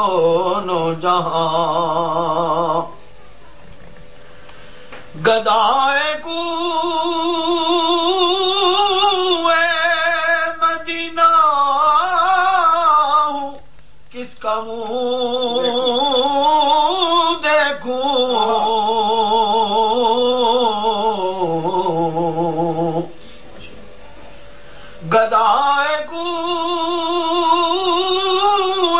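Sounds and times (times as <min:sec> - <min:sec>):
person singing unaccompanied: 0:00.0 - 0:03.0, 0:05.1 - 0:23.2, 0:25.0 - 0:28.9.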